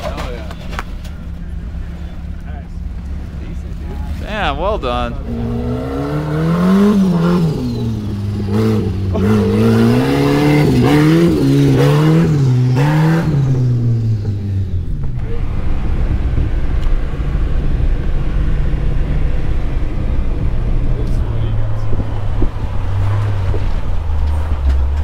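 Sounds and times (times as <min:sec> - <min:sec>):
off-road engine revving: 0:00.7 - 0:25.0.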